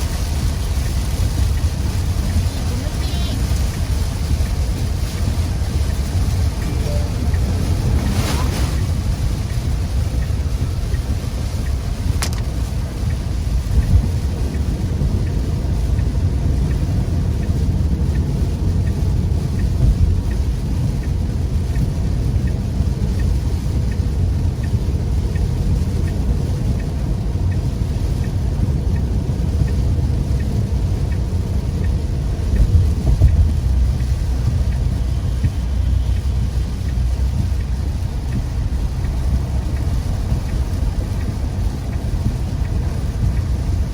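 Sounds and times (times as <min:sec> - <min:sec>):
car driving in heavy rain: 0:00.0 - 0:43.9.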